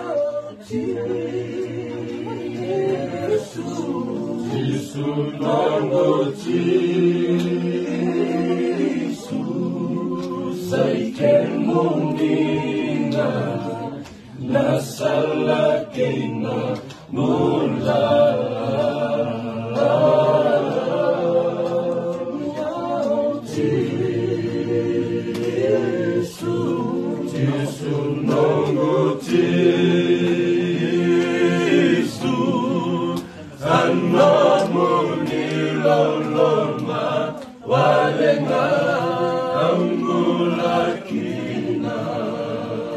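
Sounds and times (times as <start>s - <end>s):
men singing a hymn in harmony: 0.0s - 42.9s.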